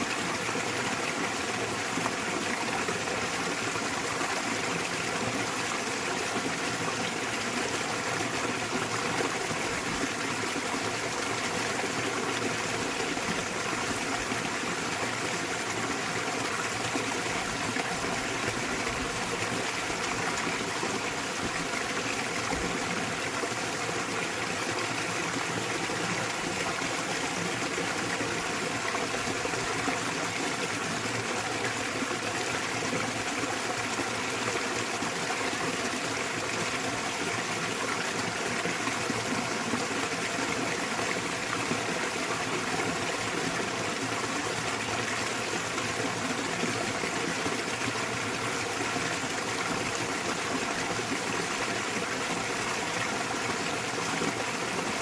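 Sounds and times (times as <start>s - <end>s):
small waterfall flowing: 0.0s - 55.0s.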